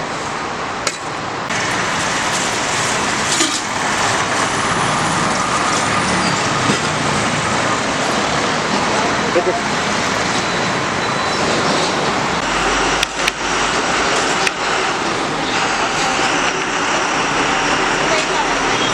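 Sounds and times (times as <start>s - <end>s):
roadside traffic hiss: 0.0s - 18.9s.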